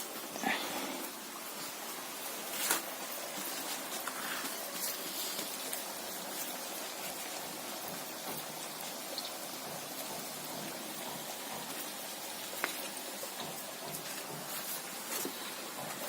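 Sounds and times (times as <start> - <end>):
doughnuts deep-frying in oil: 0.0 - 16.0.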